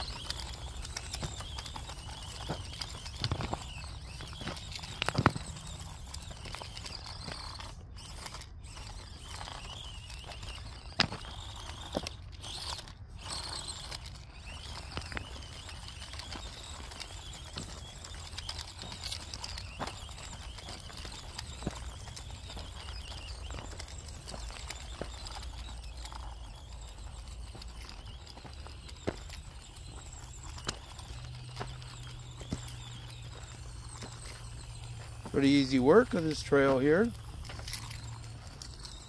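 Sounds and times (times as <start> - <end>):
footsteps crunching on gravel: 0.0 - 39.0.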